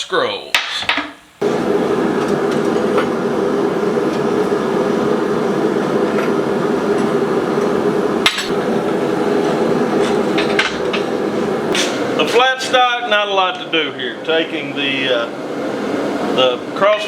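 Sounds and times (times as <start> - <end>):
forge roaring: 1.4 - 17.0.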